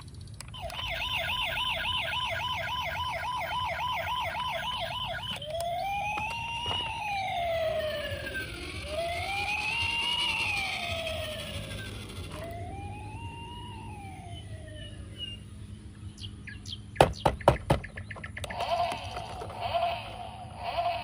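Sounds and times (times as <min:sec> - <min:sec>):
wailing siren: 0:00.5 - 0:15.8, 0:18.5 - 0:21.0
wavering repeated tone: 0:00.6 - 0:15.5, 0:18.4 - 0:21.0.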